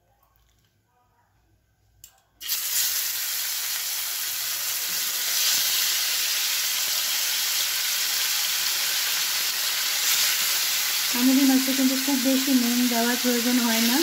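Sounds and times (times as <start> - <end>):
fish sizzling in hot oil: 2.4 - 14.0.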